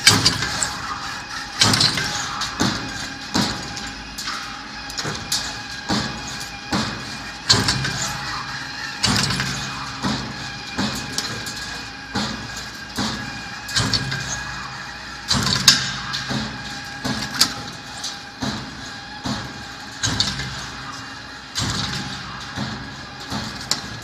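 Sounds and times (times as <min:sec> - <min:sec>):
shear cutting metal clack: 0:00.0 - 0:24.0
steady machine hum: 0:00.0 - 0:24.0.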